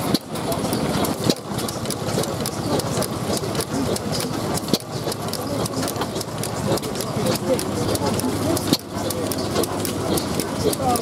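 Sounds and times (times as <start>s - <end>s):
old engine running steadily: 0.0s - 11.0s
rapid mechanical clicking: 0.0s - 11.0s.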